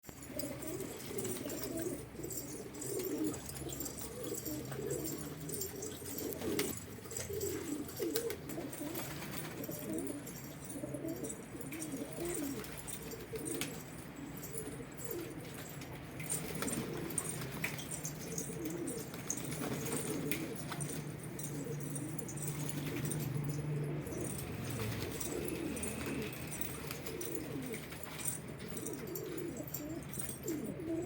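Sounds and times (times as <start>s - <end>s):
pigeons cooing: 0.1s - 31.0s.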